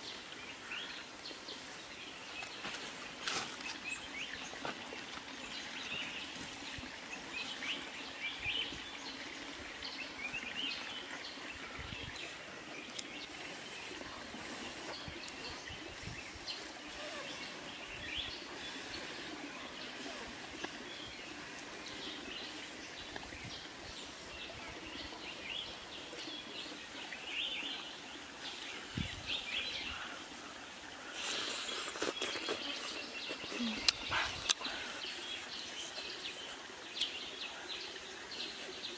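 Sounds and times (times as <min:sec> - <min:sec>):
birds chirping: 0:00.0 - 0:38.9
forest ambience hiss: 0:00.0 - 0:38.9.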